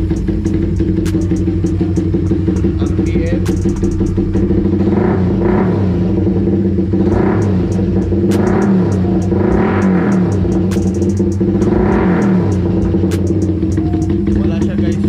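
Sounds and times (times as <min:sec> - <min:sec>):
motorcycle engine revving loudly: 0:00.0 - 0:15.0.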